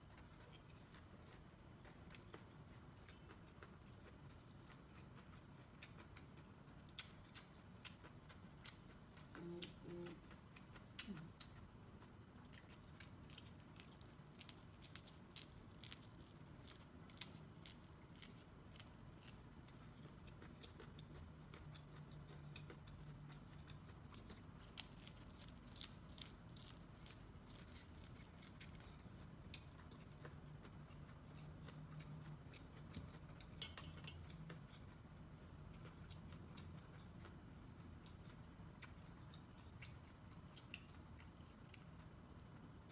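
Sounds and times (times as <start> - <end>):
chewing corn crunches: 0.0 - 35.0.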